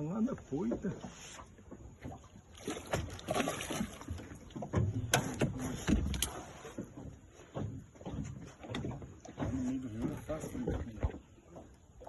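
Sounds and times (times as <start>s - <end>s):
knocks and scraping in a boat: 0.0s - 12.0s.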